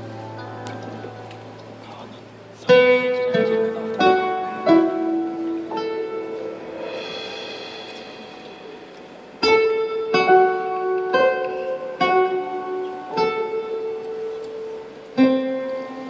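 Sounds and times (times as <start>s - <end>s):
ringing plucked notes: 2.7s - 16.0s.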